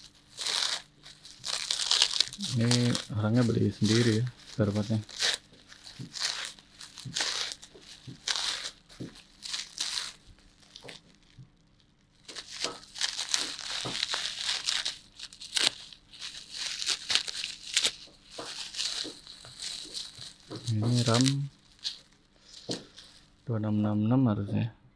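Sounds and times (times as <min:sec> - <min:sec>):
plastic packaging crinkling: 0:00.0 - 0:23.5.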